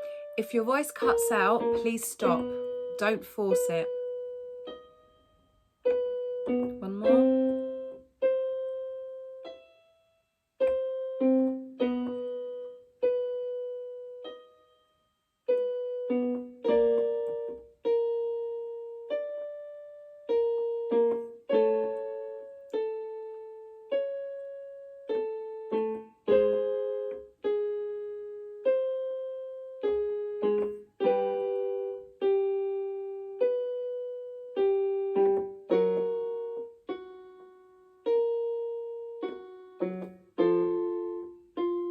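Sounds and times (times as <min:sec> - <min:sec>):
electric keyboard piano notes: 0:00.0 - 0:10.0, 0:10.6 - 0:41.9.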